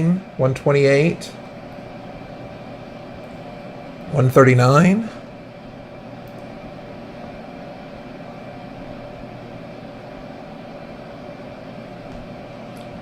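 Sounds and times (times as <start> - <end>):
printer fan whirring: 0.0 - 13.0.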